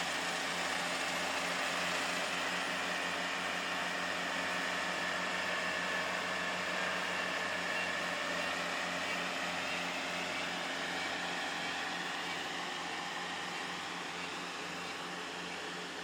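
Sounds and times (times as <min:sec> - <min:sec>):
combine harvester engine drone: 0:00.0 - 0:16.0
harvesting machinery whirring hiss: 0:00.1 - 0:16.0.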